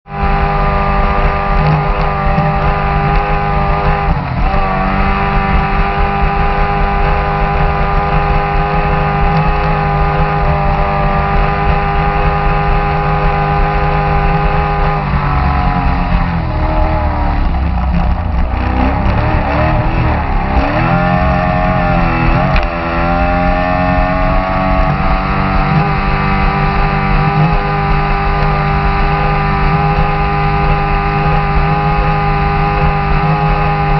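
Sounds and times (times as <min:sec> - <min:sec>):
boat engine running hard: 0:00.1 - 0:33.9.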